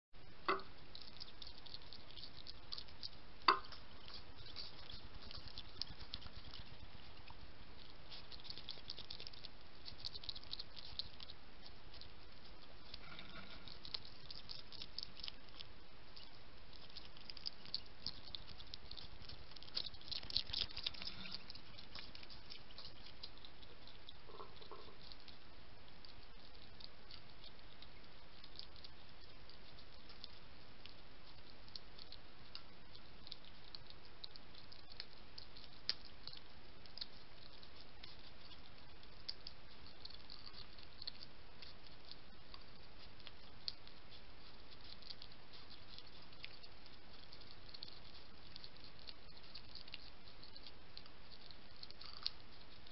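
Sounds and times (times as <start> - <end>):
hedgehog crunching food pellets: 0.2 - 52.9.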